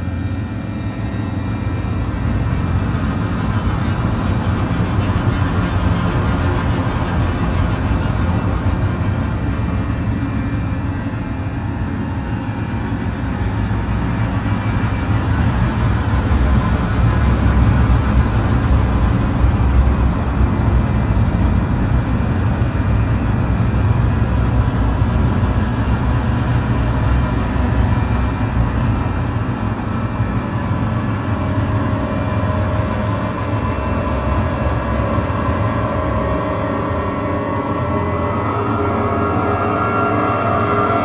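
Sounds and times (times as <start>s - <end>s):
dark ambient drone music: 0.0s - 41.0s.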